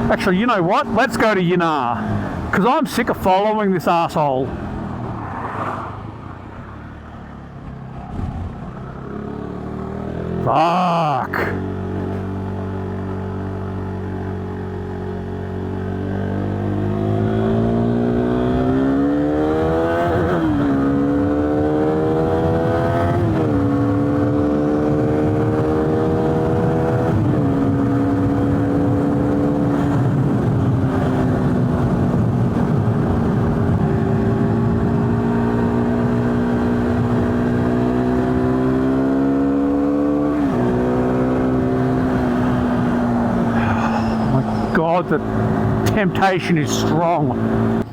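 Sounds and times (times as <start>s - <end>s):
motorcycle engine accelerating: 4.5s - 47.9s.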